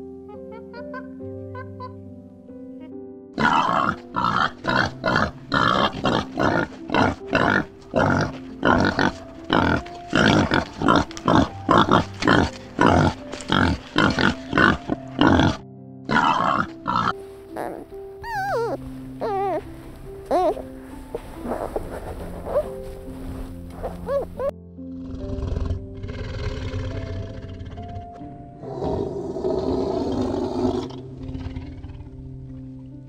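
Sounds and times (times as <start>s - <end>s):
light background music: 0.0s - 33.0s.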